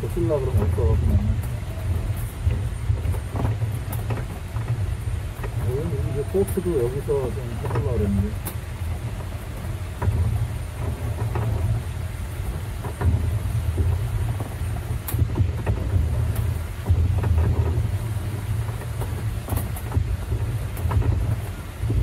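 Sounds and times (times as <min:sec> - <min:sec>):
sharp clicks and rattles: 0:00.0 - 0:22.0
vehicle rumbling over pavement: 0:00.0 - 0:22.0.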